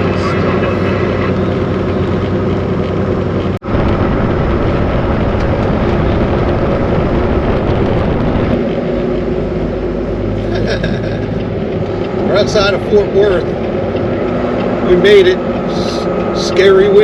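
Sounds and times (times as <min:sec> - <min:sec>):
road and wind noise: 0:00.0 - 0:17.0
truck engine hum: 0:00.0 - 0:17.0.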